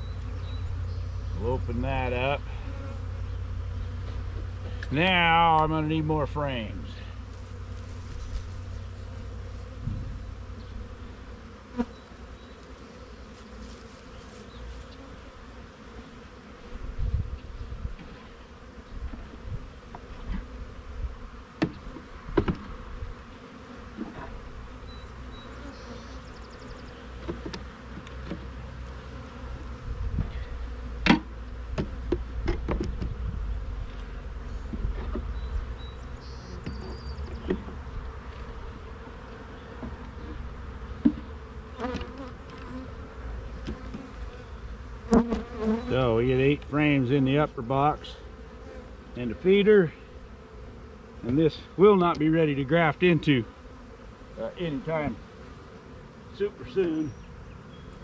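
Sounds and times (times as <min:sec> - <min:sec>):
bees humming: 0:00.0 - 0:58.0.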